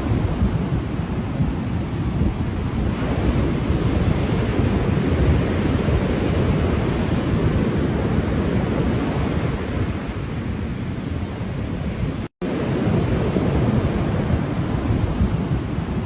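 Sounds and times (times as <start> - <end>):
ocean surf washing: 0.0 - 16.0.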